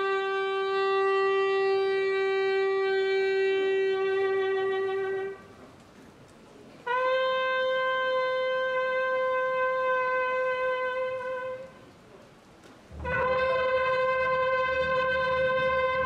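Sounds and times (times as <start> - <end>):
bugle holding long note: 0.0 - 5.5, 6.9 - 11.8, 12.9 - 16.0.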